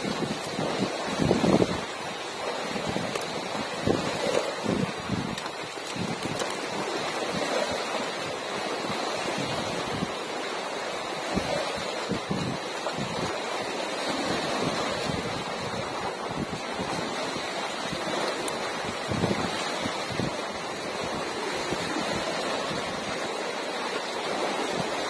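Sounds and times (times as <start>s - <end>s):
wind buffeting microphone: 0.0s - 10.4s, 11.1s - 25.0s
sea water rushing: 0.0s - 25.0s.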